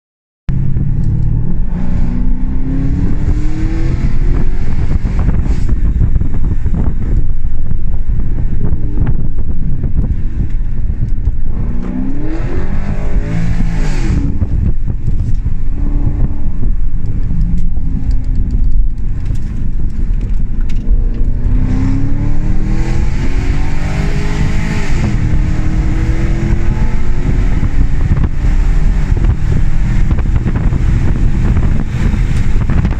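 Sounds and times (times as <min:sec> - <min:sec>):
loud car engine accelerating: 0:00.5 - 0:32.9.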